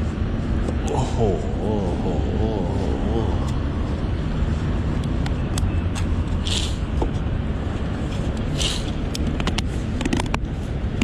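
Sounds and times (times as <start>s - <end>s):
passing road vehicles rumble: 0.0s - 11.0s.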